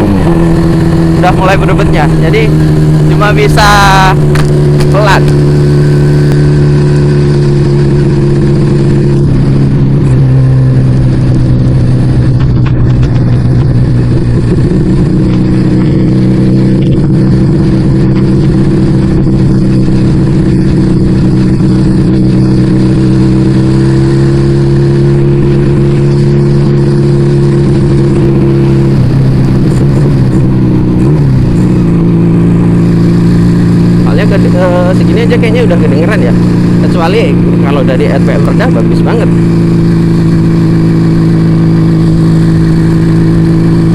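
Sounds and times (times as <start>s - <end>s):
engine stuttering: 0.0s - 43.9s
motorcycle engine running: 0.0s - 43.9s.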